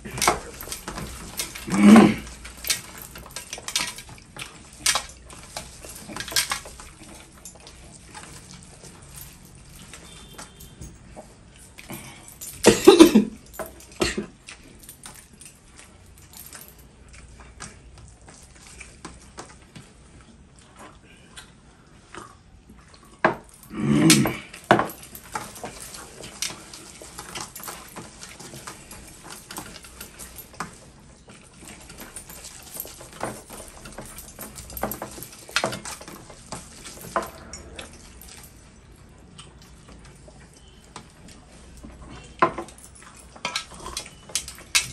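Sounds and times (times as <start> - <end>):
chewing and mouth noises: 0.0 - 44.9.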